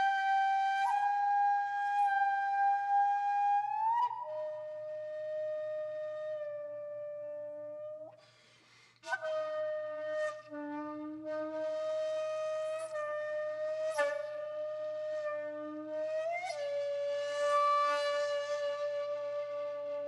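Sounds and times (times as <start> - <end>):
flute-like wind instrument: 0.0 - 8.2, 9.0 - 20.0.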